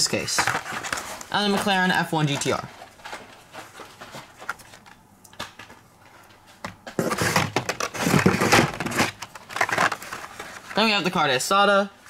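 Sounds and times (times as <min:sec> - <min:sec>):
plastic and cardboard clattering: 0:00.0 - 0:11.1.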